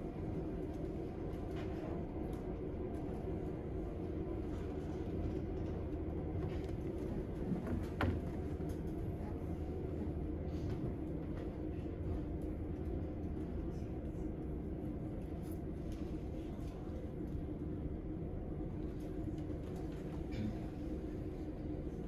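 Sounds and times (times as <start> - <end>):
low room rumble: 0.0 - 22.0.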